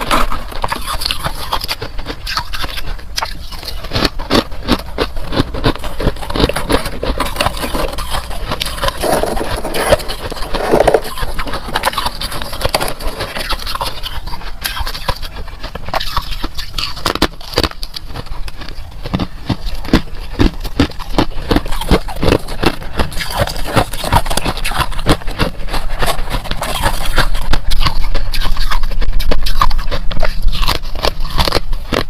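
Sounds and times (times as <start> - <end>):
frost being crunched and chewed: 0.0 - 32.0.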